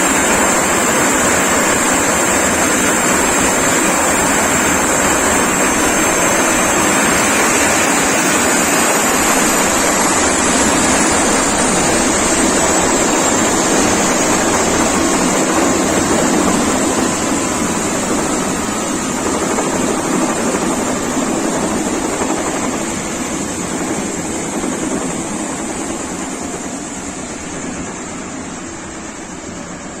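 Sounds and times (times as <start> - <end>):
helicopter rotor and turbine: 0.0 - 30.0.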